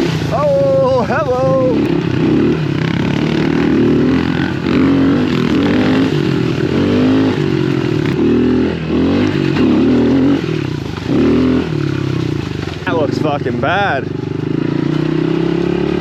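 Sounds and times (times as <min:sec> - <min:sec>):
pit bike engine revving: 0:00.0 - 0:16.0.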